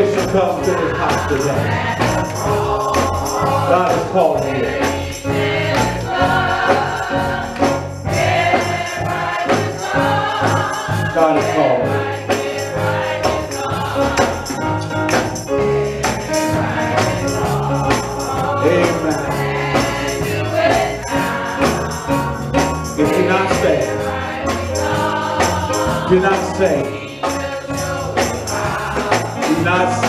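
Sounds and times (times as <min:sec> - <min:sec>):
choir singing: 0:00.0 - 0:30.0
keyboard: 0:00.0 - 0:30.0
percussion: 0:00.0 - 0:30.0.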